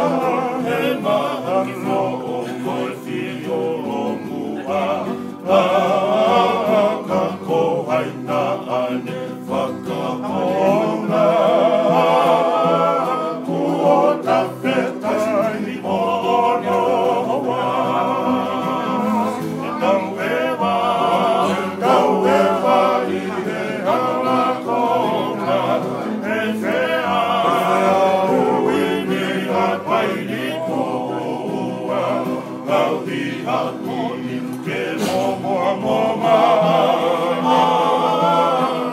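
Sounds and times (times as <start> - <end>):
men singing in harmony: 0.0 - 38.9
strummed acoustic guitars: 0.0 - 38.9.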